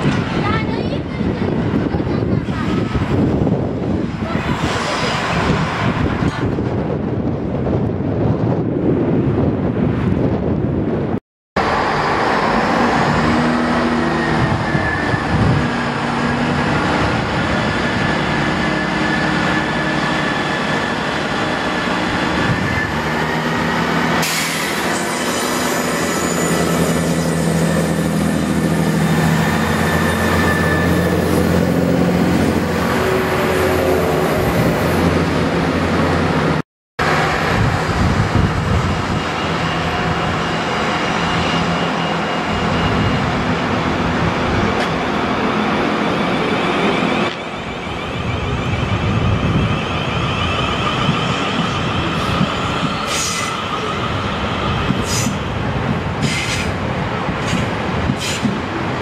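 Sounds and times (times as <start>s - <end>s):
diesel train engines running: 0.0s - 59.0s
train wheels rolling on rails: 11.6s - 59.0s.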